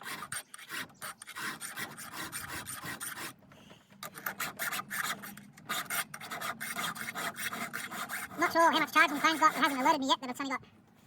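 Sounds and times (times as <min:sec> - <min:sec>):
file rasping on chainsaw chain: 0:00.0 - 0:03.4, 0:04.0 - 0:10.0.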